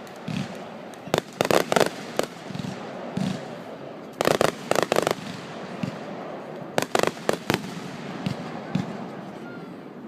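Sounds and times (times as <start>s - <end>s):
fireworks bangs and crackles: 0.0s - 9.5s.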